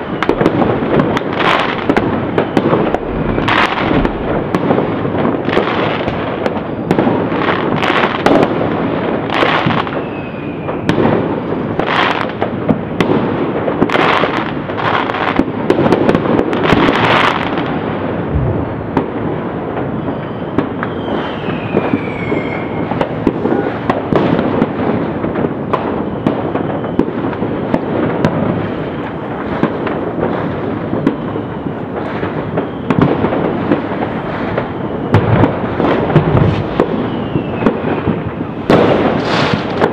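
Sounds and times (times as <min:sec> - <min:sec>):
falling firework whistle: 0:00.0 - 0:13.1, 0:13.8 - 0:39.9
fireworks booms: 0:00.0 - 0:39.9
fireworks crackling and popping: 0:00.0 - 0:39.9.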